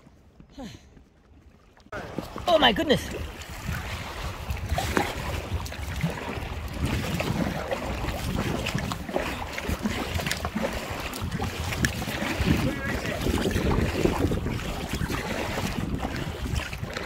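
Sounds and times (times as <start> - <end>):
water sloshing against kayak: 0.0 - 17.0
wind rumbling on microphone: 1.9 - 17.0.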